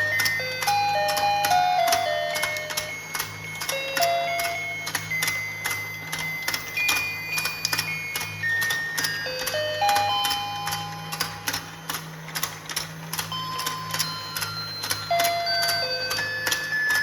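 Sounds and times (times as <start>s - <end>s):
gears clicking: 0.0s - 17.0s
toy motor humming: 0.0s - 17.0s.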